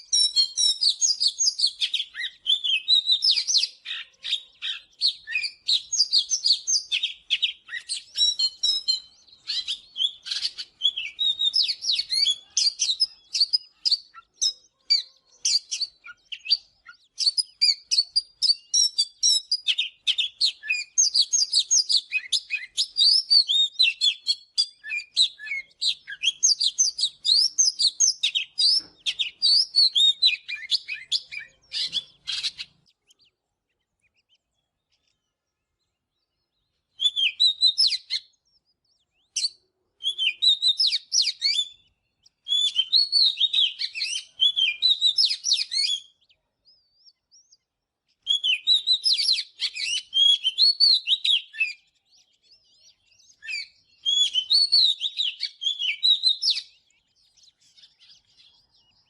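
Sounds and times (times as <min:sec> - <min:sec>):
bird singing whistled phrases: 0:00.0 - 0:33.4, 0:36.1 - 0:59.0.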